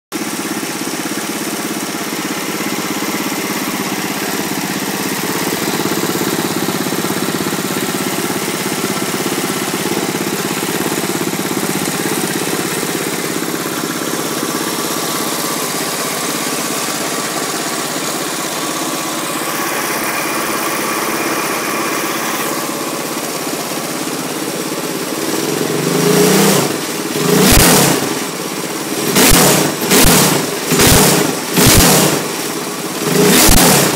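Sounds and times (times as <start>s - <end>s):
go-kart engine idling and revving: 0.1s - 33.9s.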